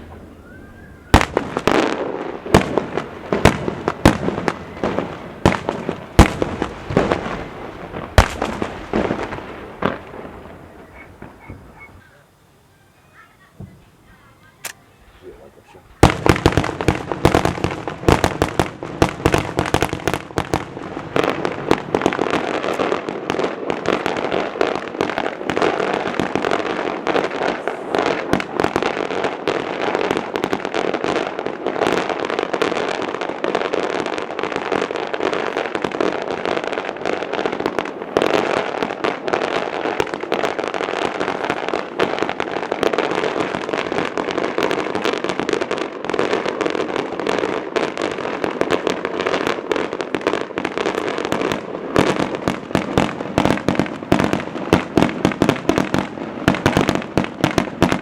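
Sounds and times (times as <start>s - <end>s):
fireworks cracking and popping: 0.0s - 12.1s, 12.7s - 58.0s
fireworks bangs: 0.0s - 58.0s.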